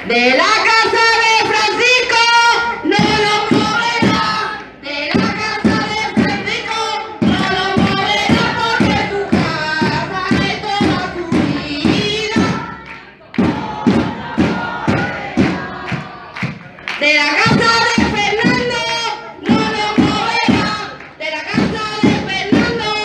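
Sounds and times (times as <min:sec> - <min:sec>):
crowd chanting: 0:00.0 - 0:23.0
steady drum thumps: 0:00.9 - 0:23.0.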